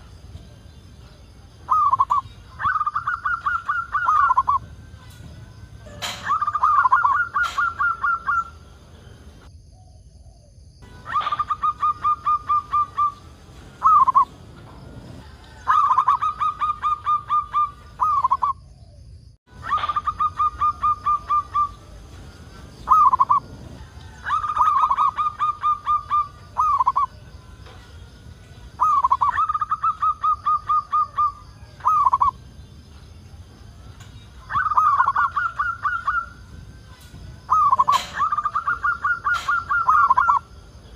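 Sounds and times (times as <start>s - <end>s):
dove cooing song: 0.0s - 40.9s.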